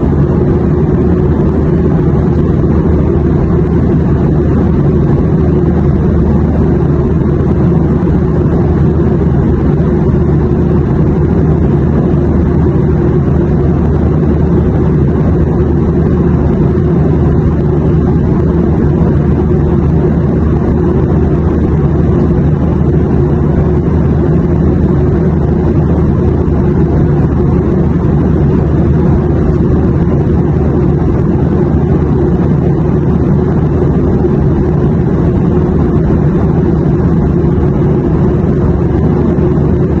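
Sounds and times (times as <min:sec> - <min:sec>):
airliner cabin engine drone: 0:00.0 - 0:40.0.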